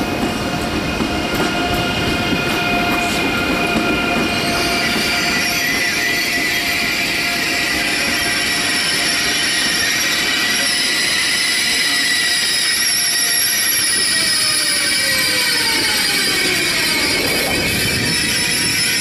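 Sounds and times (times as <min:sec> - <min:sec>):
electric train running: 0:00.0 - 0:19.0
high-pitched train whine: 0:00.0 - 0:19.0
wheel squeal: 0:01.5 - 0:19.0.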